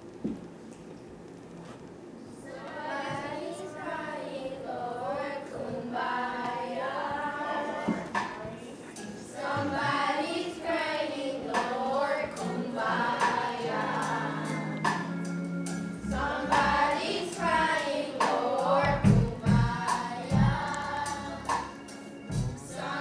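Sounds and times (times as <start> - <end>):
children's choir singing gospel: 2.2 - 23.0.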